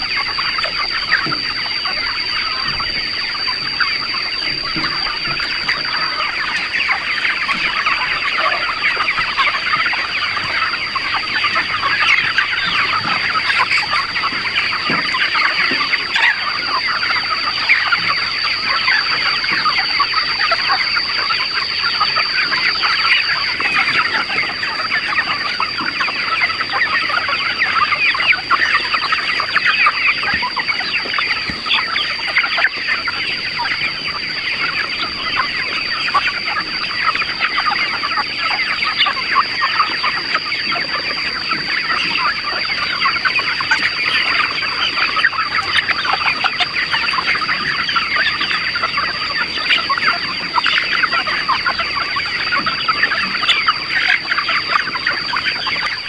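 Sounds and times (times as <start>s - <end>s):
chickens clucking and peeping: 0.0s - 56.0s
steady high-pitched whine: 0.0s - 56.0s.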